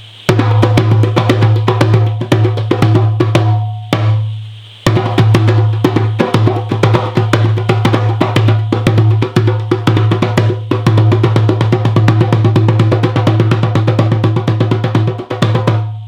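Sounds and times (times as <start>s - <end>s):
fast drum strokes: 0.3s - 16.0s.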